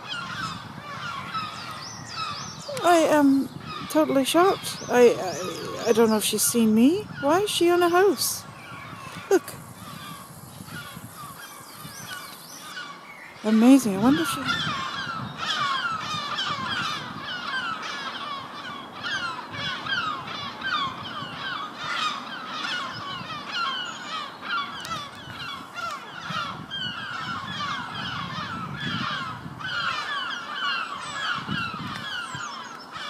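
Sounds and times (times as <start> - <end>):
many birds calling: 0.0 - 33.0.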